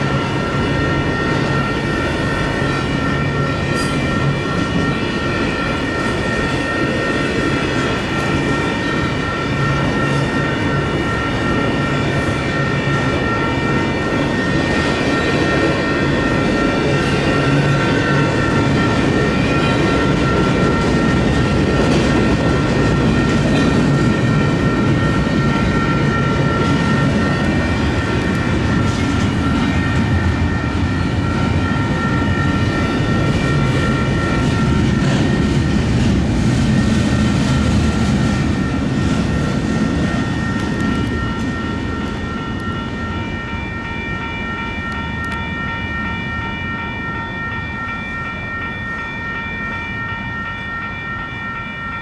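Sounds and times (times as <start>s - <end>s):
train wheels rumbling and clattering: 0.0s - 46.9s
crossing signal bells ringing: 0.0s - 52.0s.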